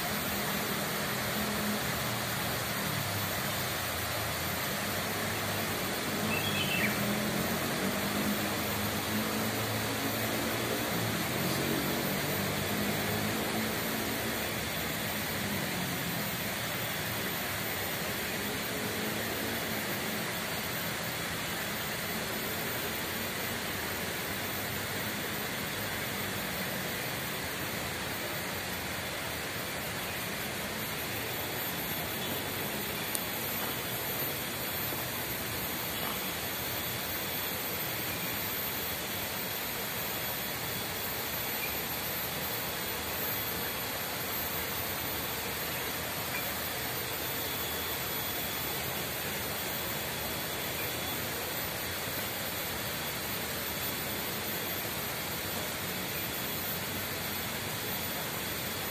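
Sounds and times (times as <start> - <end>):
distant traffic hum: 0.0 - 58.9
outdoor hiss: 0.0 - 58.9.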